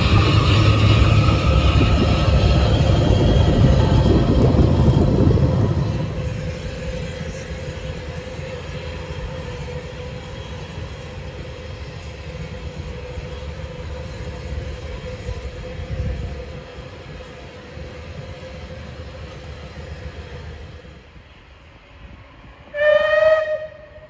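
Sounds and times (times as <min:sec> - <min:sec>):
steam locomotive rumbling past: 0:00.0 - 0:24.0.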